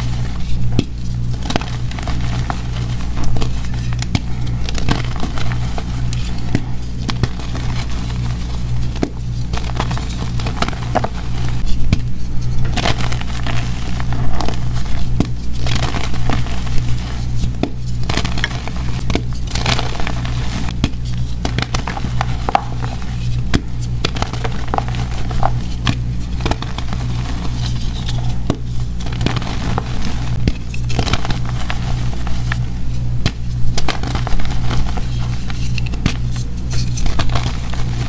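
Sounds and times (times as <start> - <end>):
chalk crackling and crunching: 0.0 - 38.0
low hum: 0.0 - 38.0
chalk pieces snapping: 0.4 - 32.6, 33.2 - 38.0.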